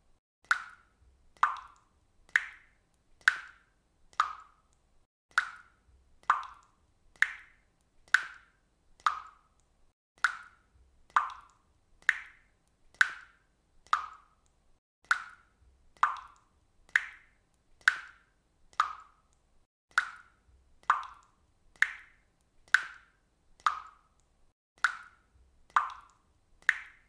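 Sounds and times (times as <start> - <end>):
faucet water dripping: 0.4 - 27.0.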